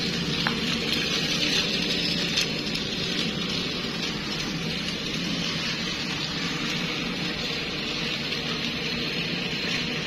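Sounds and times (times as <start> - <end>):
toy trains whirring and rattling: 0.0 - 10.0.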